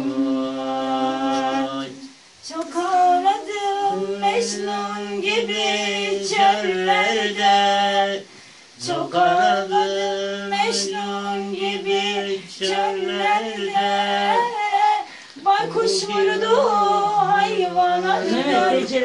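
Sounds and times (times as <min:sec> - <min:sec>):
person singing unaccompanied: 0:00.0 - 0:19.0.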